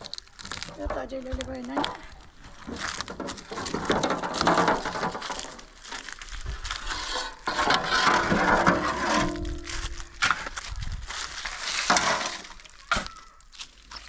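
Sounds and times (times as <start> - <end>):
dry material rustling and crunching: 0.0 - 14.0.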